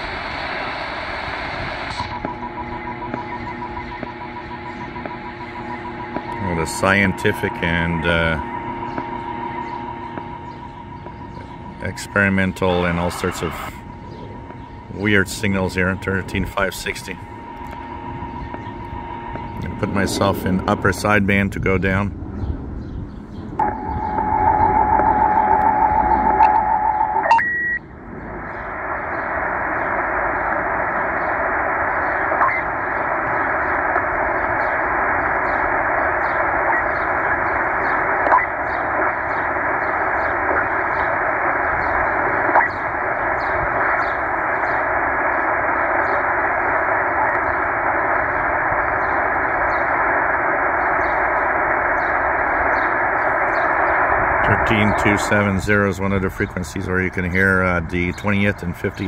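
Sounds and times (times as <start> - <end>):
radio static hiss: 0.0 - 59.0
steady radio tone: 0.0 - 59.0
faint radio clicks: 0.6 - 21.6, 23.5 - 27.1, 28.4 - 59.0.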